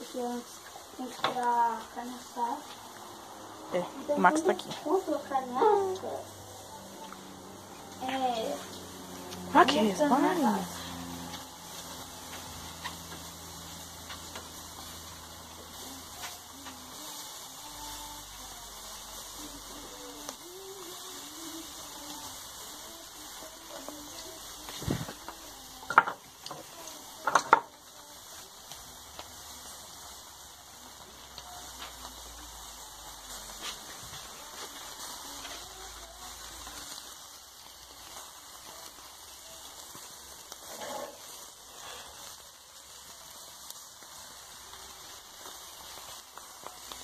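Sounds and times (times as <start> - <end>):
meat sizzling on grill: 0.0 - 47.0.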